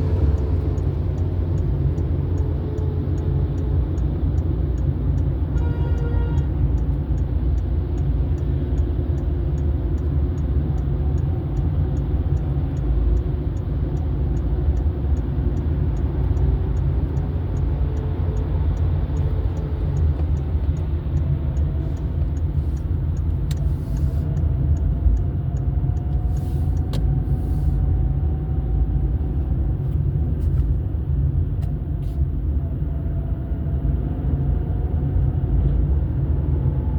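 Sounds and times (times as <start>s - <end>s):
car driving on road: 0.0s - 36.9s.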